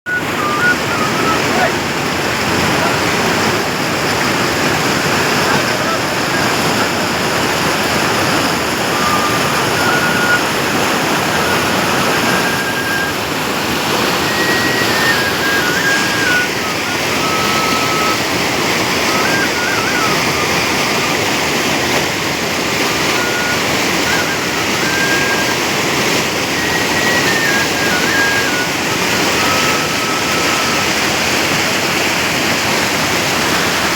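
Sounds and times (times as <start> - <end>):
bamboo flute slow melody: 0.1 - 33.9
rushing mountain stream: 0.1 - 33.9.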